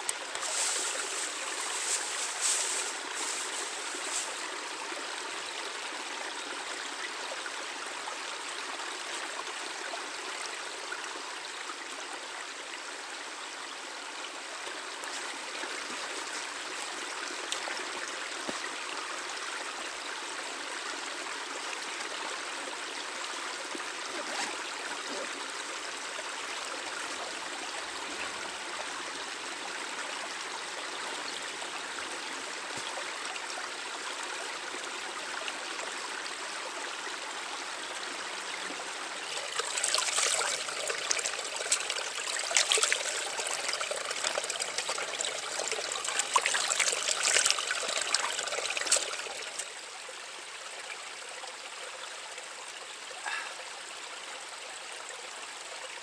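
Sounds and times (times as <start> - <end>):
brook babbling over stones: 0.0 - 56.0.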